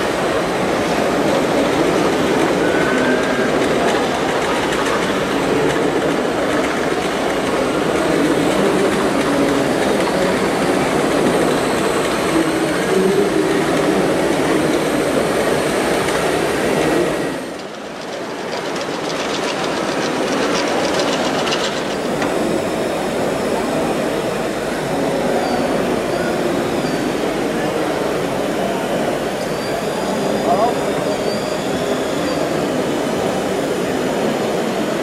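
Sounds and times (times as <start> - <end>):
model machines mechanical running: 0.5 - 35.0.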